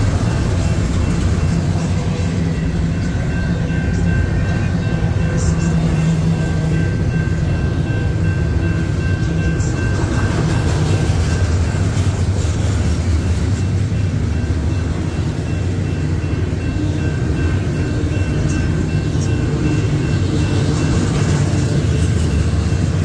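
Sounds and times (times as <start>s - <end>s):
crossing warning bell tones: 0.0s - 23.0s
train wheels rumbling on rails: 0.0s - 23.0s.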